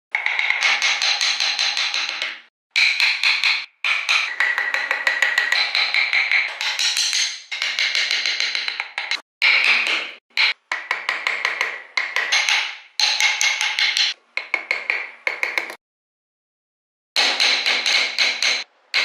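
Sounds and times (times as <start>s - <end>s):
hammer tapping metal: 0.2s - 15.8s, 17.2s - 19.0s.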